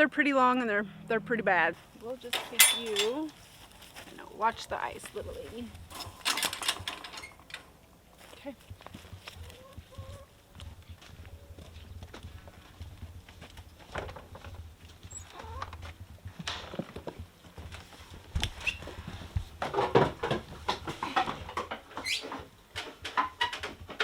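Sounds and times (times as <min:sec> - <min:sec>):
goat hooves clattering on wood: 0:03.1 - 0:24.0.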